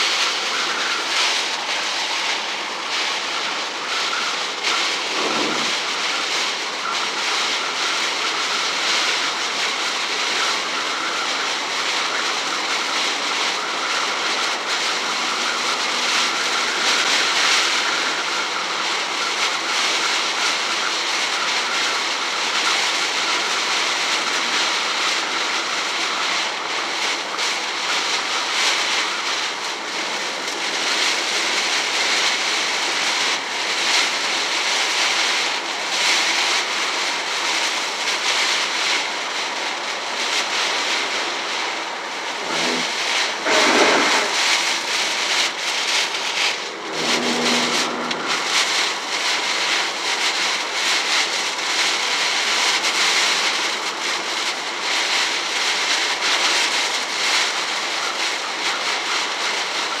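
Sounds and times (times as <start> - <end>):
heavy rain on car roof: 0.0 - 60.0
tyres on wet road: 0.0 - 60.0.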